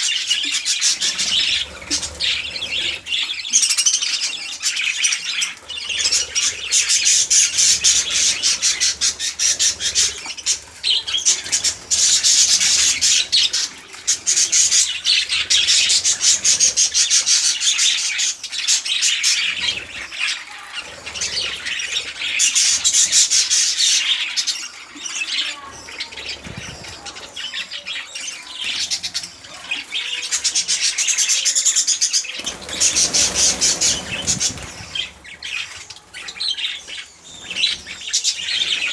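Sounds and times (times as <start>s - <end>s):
budgies chattering and squawking: 0.0s - 38.9s.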